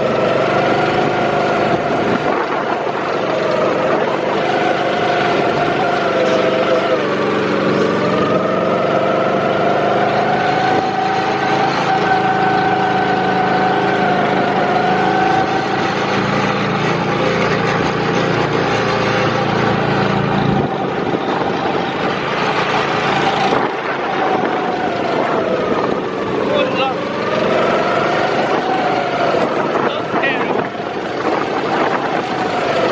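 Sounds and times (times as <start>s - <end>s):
go-kart engine whine: 0.0s - 32.9s.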